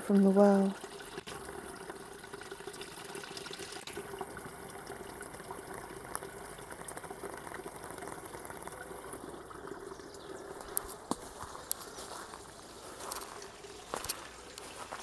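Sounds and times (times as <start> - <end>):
water trickling in a channel: 0.0 - 15.0.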